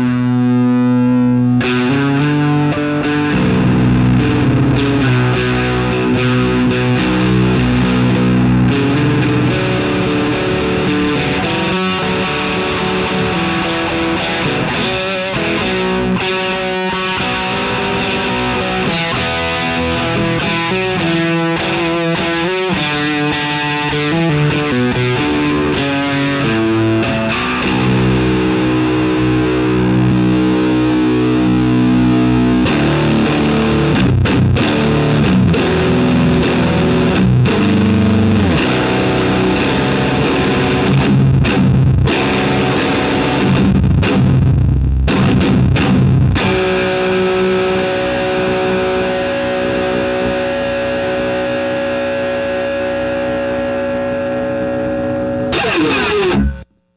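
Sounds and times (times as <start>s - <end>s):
distorted electric guitar: 0.0s - 56.9s.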